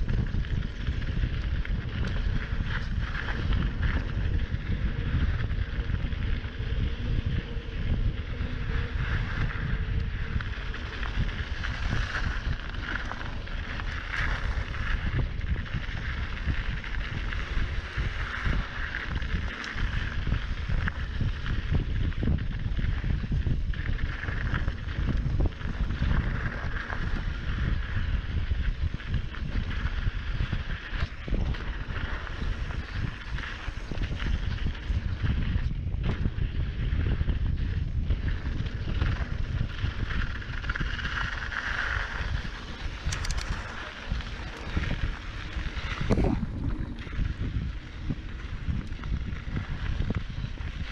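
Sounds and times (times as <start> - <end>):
bike knocking and rattling: 0.0 - 50.9
tyres rolling over gravel: 0.0 - 50.9
wind rumble on microphone: 0.0 - 50.9.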